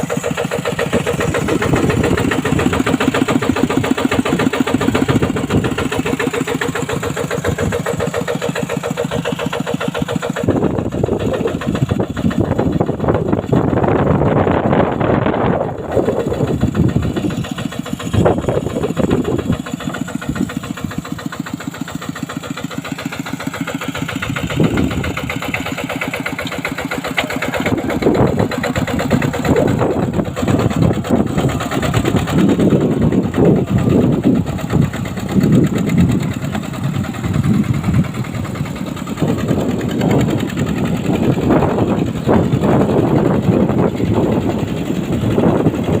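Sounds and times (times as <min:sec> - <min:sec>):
bulldozer diesel engine chugging: 0:00.0 - 0:46.0.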